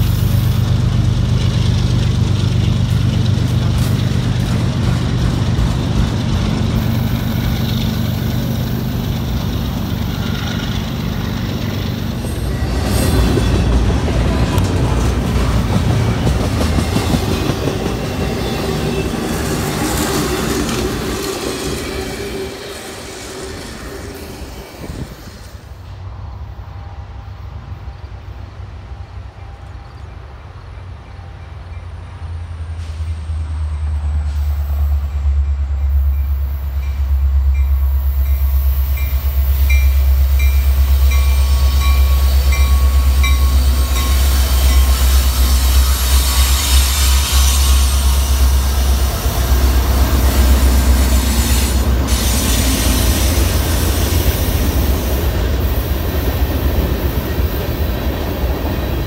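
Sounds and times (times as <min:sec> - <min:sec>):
train wheels rattling on rail: 0:00.0 - 0:26.0, 0:32.5 - 0:59.0
locomotive engine rumble: 0:00.0 - 0:59.0.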